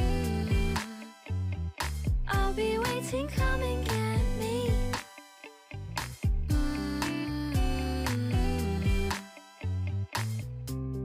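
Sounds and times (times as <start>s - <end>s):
pop music with guitar and beat: 0.0s - 11.0s.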